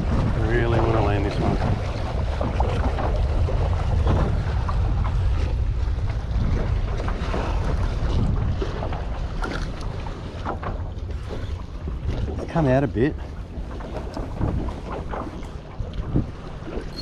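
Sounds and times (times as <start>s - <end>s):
water lapping against kayak hull: 0.0s - 17.0s
wind buffeting microphone: 0.0s - 17.0s.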